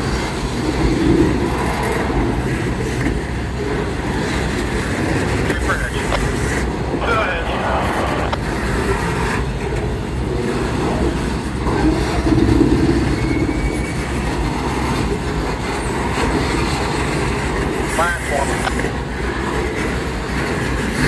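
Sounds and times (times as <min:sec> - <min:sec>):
freight train rolling past: 0:00.0 - 0:21.0.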